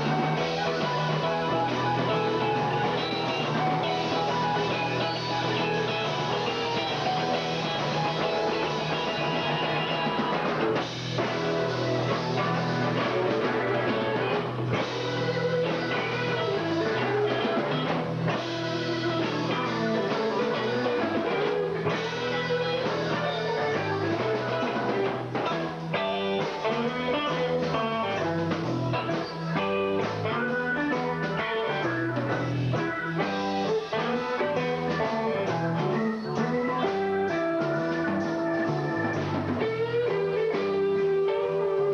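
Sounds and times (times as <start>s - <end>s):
bass guitar: 0.0s - 41.9s
drum kit: 0.0s - 41.9s
electric guitar line: 0.0s - 41.9s.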